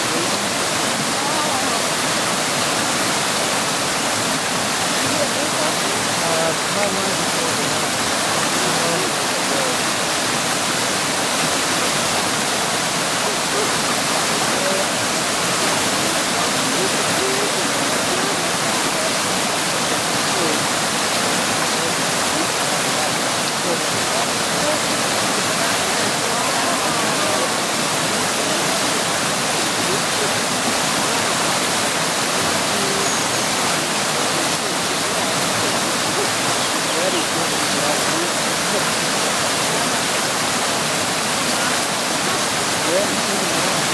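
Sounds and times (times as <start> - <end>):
creek water rushing over rocks: 0.0 - 43.9.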